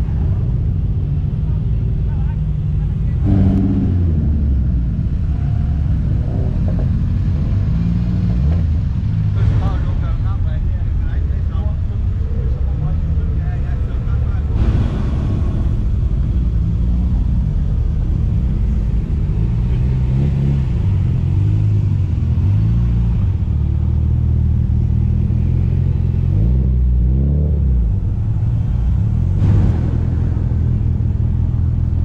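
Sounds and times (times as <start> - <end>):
car engines and exhausts rumbling: 0.0 - 32.0.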